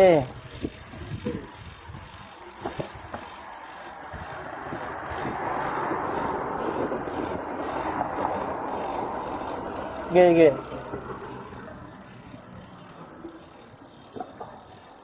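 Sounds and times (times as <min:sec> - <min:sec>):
bicycle tyres on street: 0:00.0 - 0:15.0.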